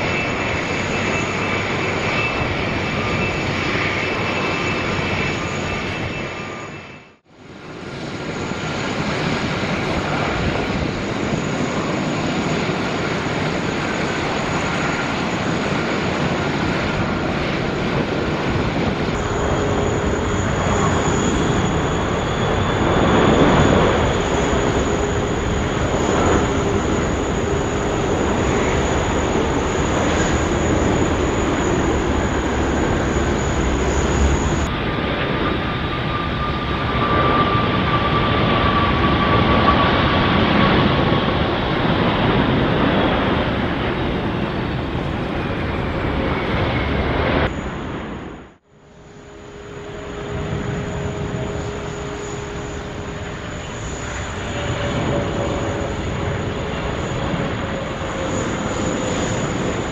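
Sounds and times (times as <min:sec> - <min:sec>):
jet airliner engines rumbling: 0:00.0 - 0:59.9.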